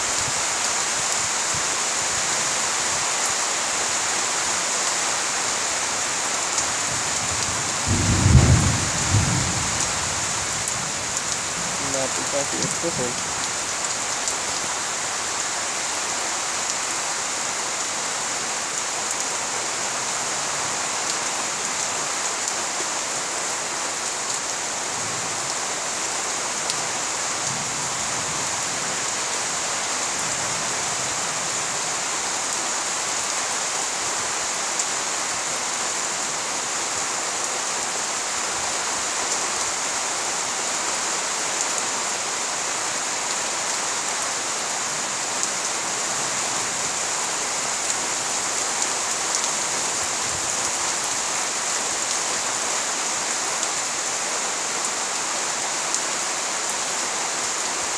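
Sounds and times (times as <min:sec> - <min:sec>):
rain falling on leaves: 0:00.0 - 0:57.9.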